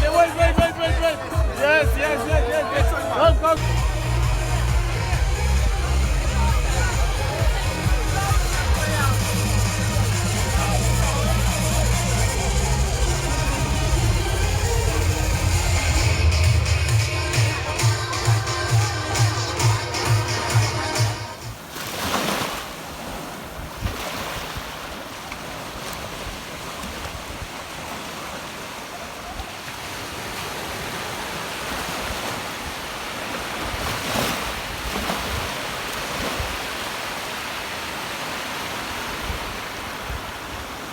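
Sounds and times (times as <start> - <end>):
rushing wind or water: 0.0 - 40.9.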